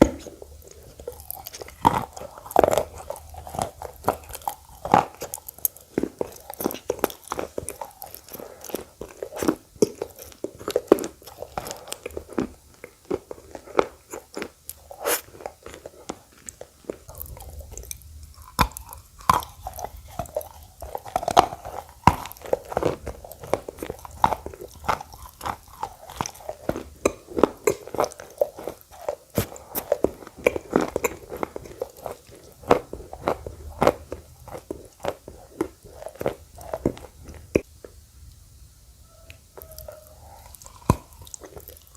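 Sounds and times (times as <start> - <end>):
wet mouth sounds: 0.0 - 37.7, 39.3 - 41.9
biting and chewing crunches: 0.0 - 38.0, 39.3 - 41.9.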